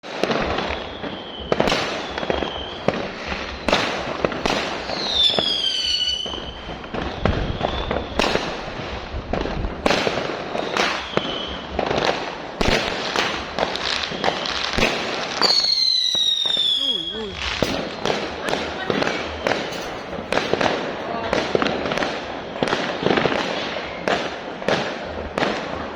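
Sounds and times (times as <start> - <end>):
fireworks bangs: 0.0 - 25.9
whistling firework shells: 0.1 - 9.0, 9.9 - 24.8.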